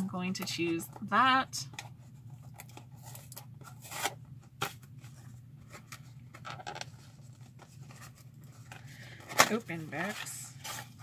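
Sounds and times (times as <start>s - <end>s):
packaging scraping and rustling: 1.9s - 11.0s.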